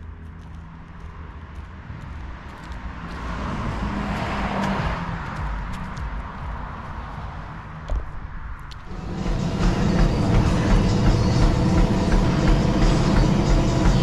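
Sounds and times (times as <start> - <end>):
low traffic rumble: 0.0 - 14.0
car passing by: 0.6 - 14.0.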